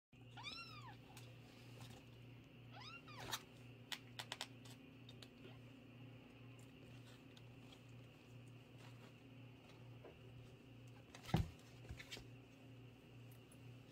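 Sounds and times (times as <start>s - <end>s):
low steady hum: 0.2s - 13.9s.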